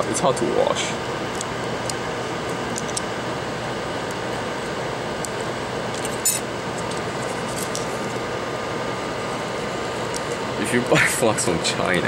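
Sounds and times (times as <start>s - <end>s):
fan-like hiss: 0.0s - 12.0s.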